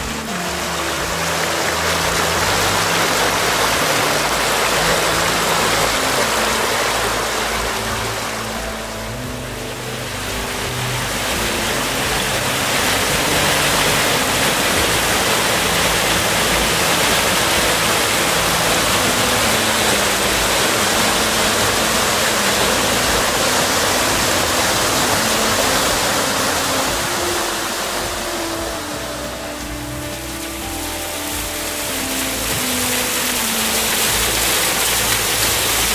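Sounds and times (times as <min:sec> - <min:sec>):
waterfall rushing over boulders: 0:00.0 - 0:35.9.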